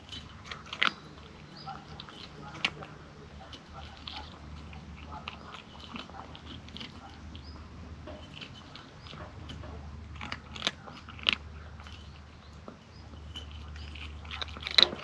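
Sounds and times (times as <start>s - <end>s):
kitten chewing and crunching: 0.0s - 15.0s.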